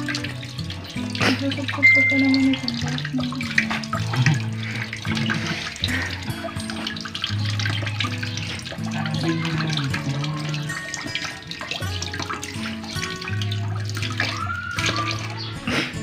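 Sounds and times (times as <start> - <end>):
background music: 0.0 - 16.0
faucet water splashing into sink: 0.0 - 16.0.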